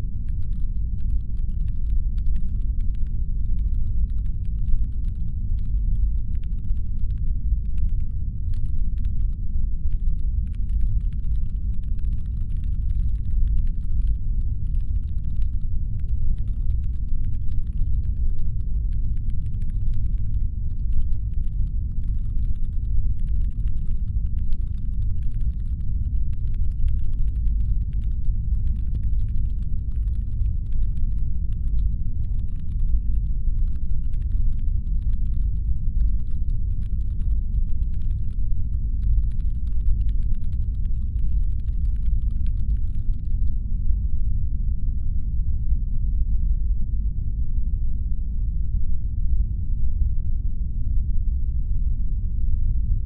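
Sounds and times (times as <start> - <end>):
deep rumbling hum: 0.0 - 53.0.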